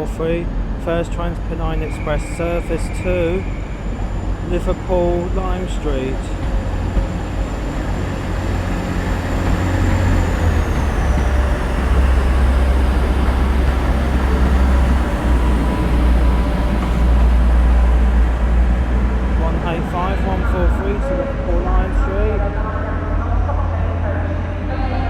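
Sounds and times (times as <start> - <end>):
diesel train engine rumbling: 0.0 - 25.0.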